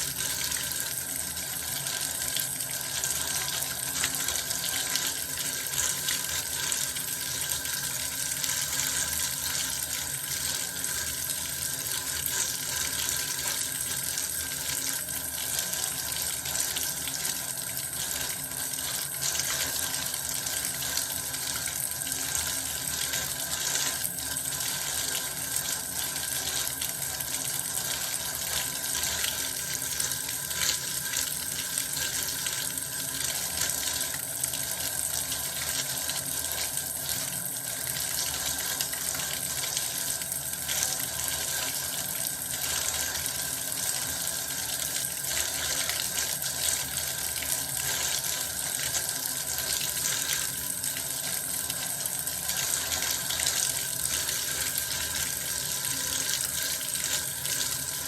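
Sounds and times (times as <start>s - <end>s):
bath water running from tap: 0.0s - 58.0s.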